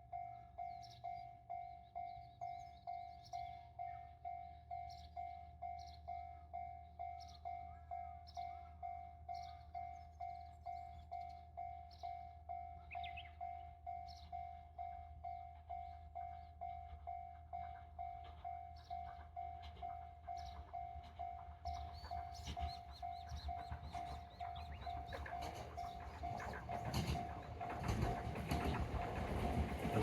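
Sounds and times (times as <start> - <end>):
level-crossing warning bell: 0.0 - 30.0.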